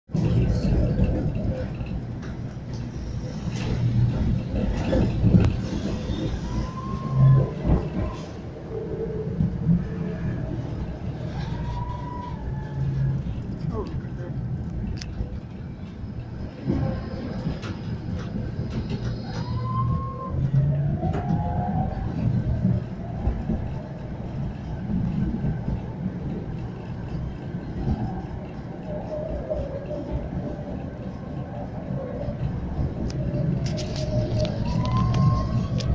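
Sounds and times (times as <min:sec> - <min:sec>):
tram wheels rumbling on rails: 0:00.1 - 0:35.9.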